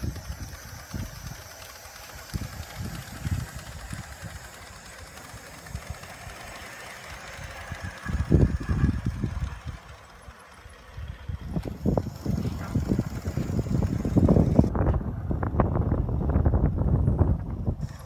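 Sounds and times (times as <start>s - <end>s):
steam hissing: 0.0s - 14.7s, 17.8s - 18.0s
low rumbling: 0.0s - 18.0s.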